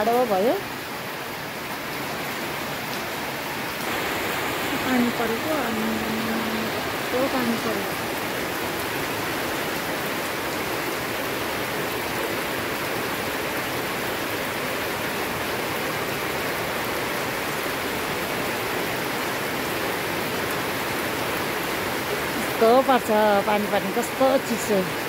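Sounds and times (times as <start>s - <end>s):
rain falling on foliage: 0.0s - 25.0s.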